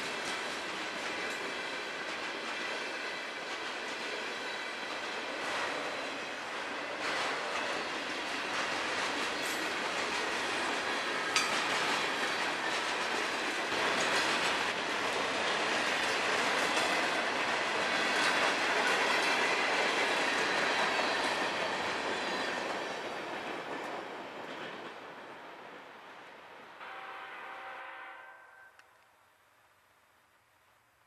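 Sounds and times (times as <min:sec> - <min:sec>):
freight train rolling past: 0:00.0 - 0:28.7.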